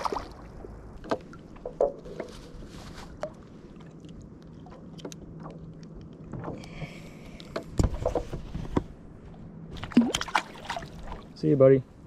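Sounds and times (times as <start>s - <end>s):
water lapping and splashing: 0.0s - 8.6s, 9.2s - 11.4s.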